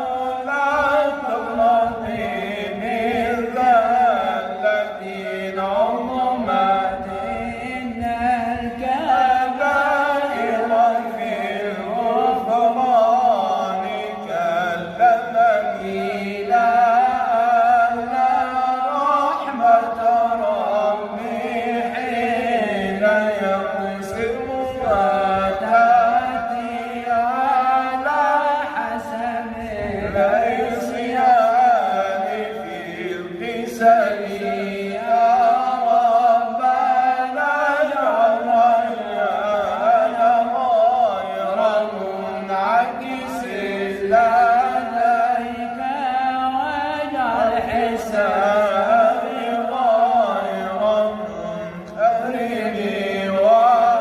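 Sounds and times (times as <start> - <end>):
man chanting devotional poem: 0.0 - 54.0.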